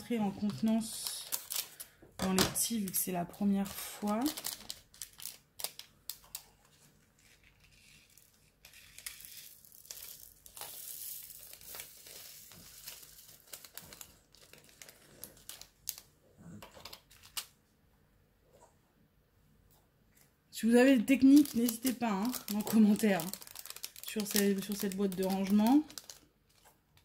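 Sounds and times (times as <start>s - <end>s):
small plastic bags crinkling: 0.0s - 17.5s, 20.8s - 27.0s.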